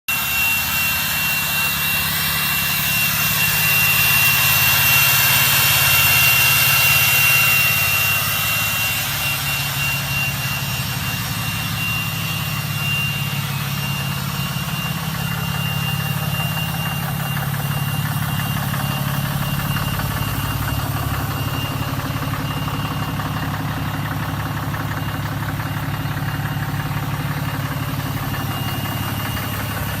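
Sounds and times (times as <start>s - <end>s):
diesel engine rumble: 0.1s - 30.0s
high turbo whistle: 0.1s - 30.0s.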